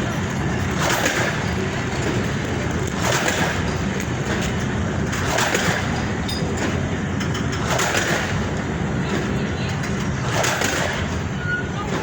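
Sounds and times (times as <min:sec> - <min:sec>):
train wheels on rail: 0:00.0 - 0:12.0.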